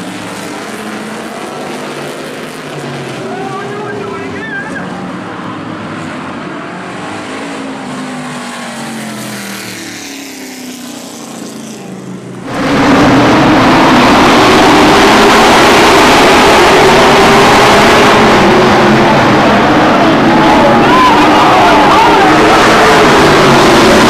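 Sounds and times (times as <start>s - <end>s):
racing cars engine noise: 0.0s - 24.0s.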